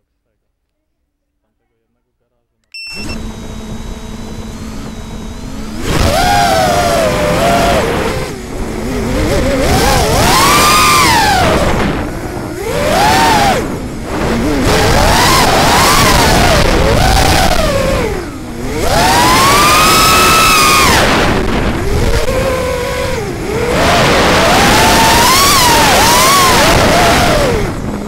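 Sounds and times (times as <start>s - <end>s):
quadcopter motors buzzing whine: 2.8s - 28.0s.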